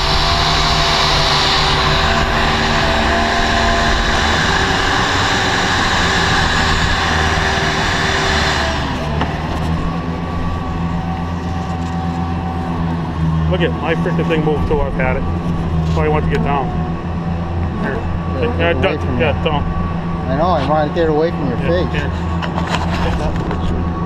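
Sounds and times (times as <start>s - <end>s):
low engine hum: 0.0s - 24.0s
vacuum motor whine: 0.0s - 24.0s.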